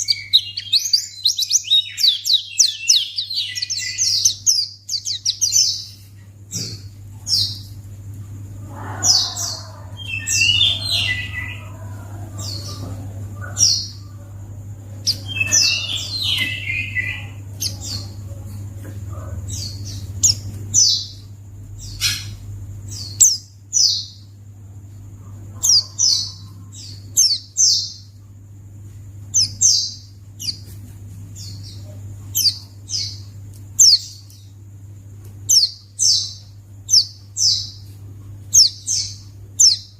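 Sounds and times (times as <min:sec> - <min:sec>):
bird chirping: 0:00.0 - 0:28.3, 0:29.2 - 0:34.6, 0:35.4 - 0:39.9
bird twittering song: 0:00.0 - 0:28.3, 0:29.2 - 0:34.6, 0:35.4 - 0:39.9.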